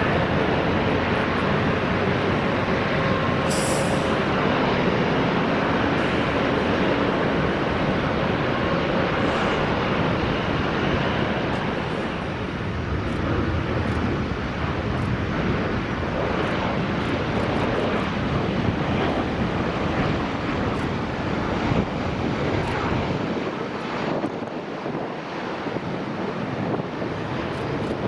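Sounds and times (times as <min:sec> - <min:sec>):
airliner jet engines: 0:00.0 - 0:28.0.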